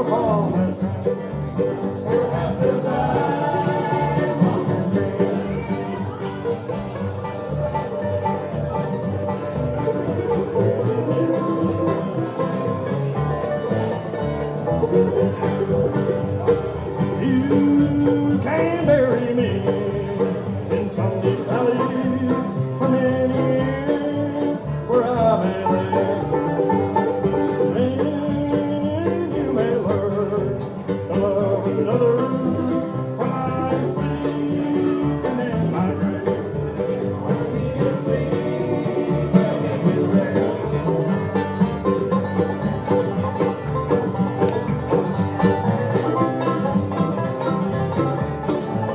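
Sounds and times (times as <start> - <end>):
banjo picking: 0.0 - 48.9
bluegrass band playing: 0.0 - 48.9.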